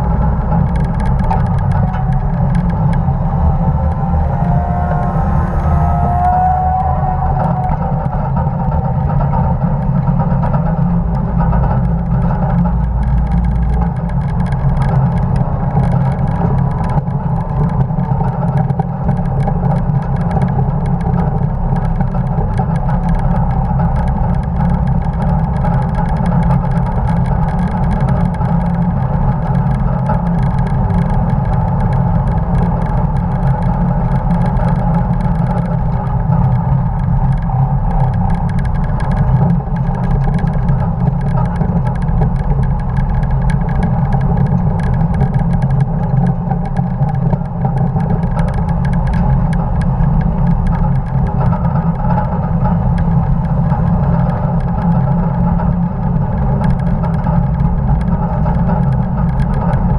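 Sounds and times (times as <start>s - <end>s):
road and wind rush: 0.0s - 59.9s
truck engine running hard: 0.0s - 59.9s.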